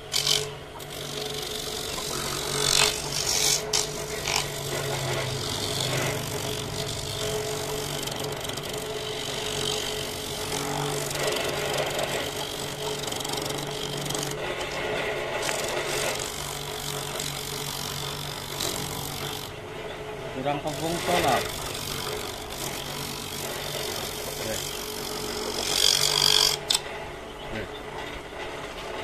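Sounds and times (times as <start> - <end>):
grater rasping against coconut: 0.0 - 19.6, 20.4 - 26.8
small electric motor running: 0.0 - 26.9.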